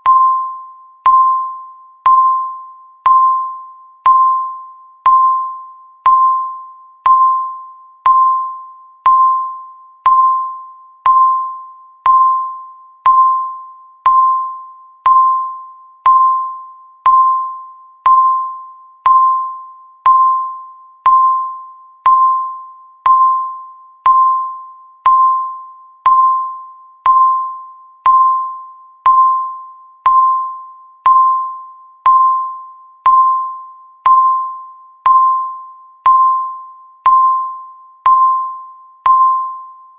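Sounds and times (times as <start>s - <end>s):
timer electronic beeps: 0.0s - 39.9s.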